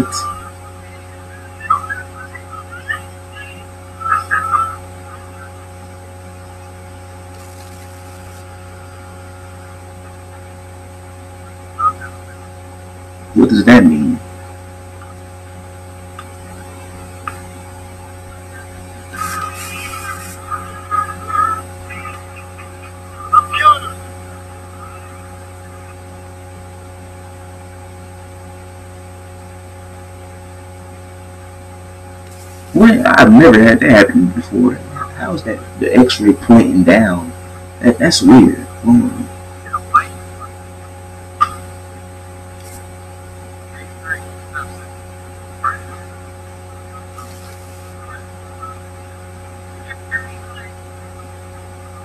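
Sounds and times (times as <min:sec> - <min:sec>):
electrical mains hum: 0:00.0 - 0:52.0
thin high whine: 0:00.0 - 0:52.0.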